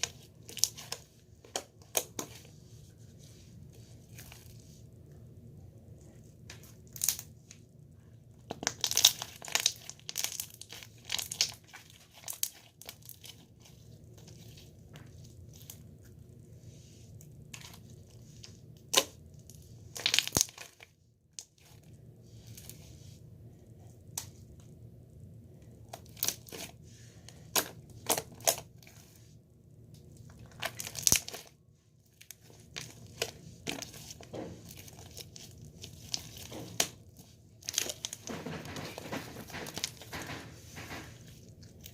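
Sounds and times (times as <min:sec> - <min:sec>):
crinkling handling sounds: 0:00.0 - 0:05.0, 0:08.3 - 0:24.8, 0:25.7 - 0:41.9
low steady hum: 0:00.0 - 0:41.9.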